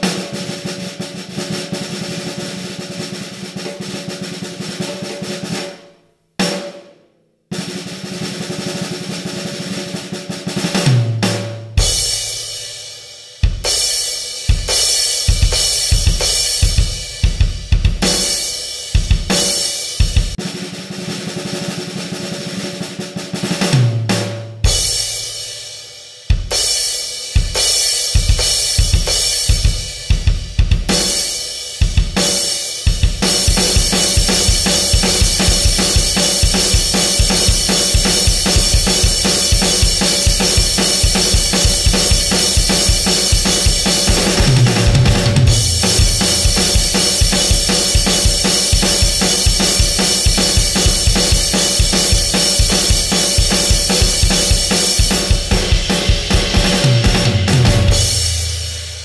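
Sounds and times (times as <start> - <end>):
fast drum kit playing: 0.0 - 6.9, 7.5 - 59.0.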